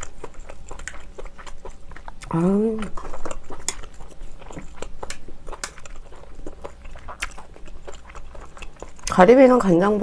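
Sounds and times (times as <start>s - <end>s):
wet chewing sounds: 0.0s - 10.0s.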